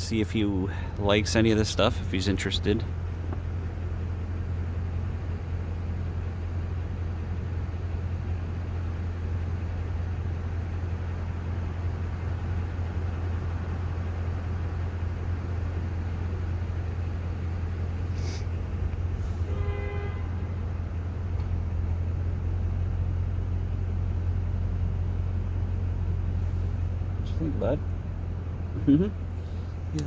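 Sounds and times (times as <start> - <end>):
car cabin drone: 0.0 - 30.0.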